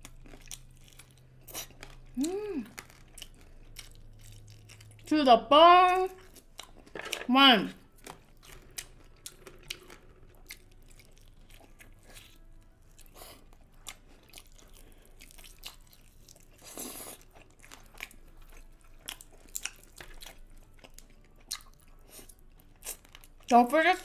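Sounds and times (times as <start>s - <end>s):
person chewing chicken wings: 0.0s - 5.1s, 7.9s - 23.4s.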